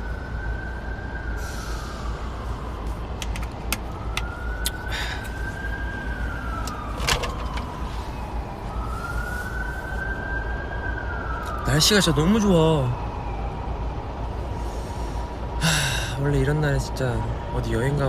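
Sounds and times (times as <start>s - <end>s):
emergency siren wailing: 0.0s - 18.0s
road rumble: 0.0s - 18.0s.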